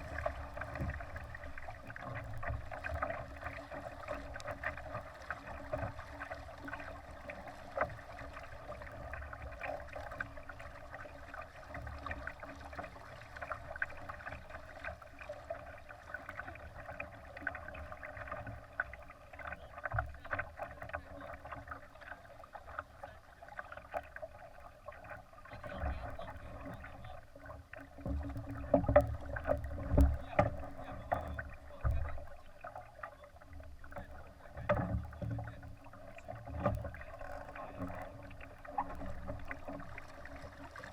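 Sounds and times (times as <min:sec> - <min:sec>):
water rushing along a hull: 0:00.0 - 0:40.9.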